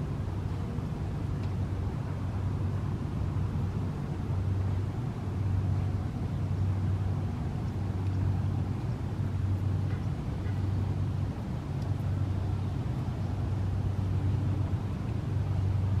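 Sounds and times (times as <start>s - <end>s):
low rumble of distant engines: 0.0s - 16.0s.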